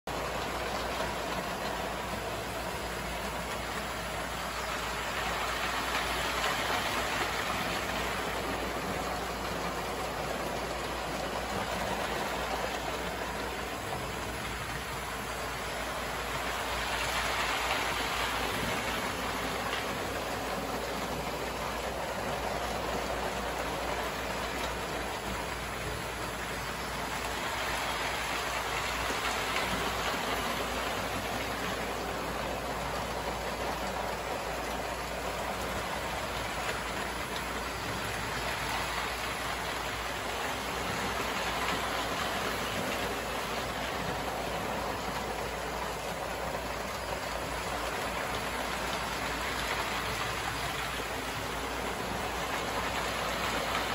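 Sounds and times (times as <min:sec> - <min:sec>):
toy trains rattling on track: 0:00.1 - 0:45.5.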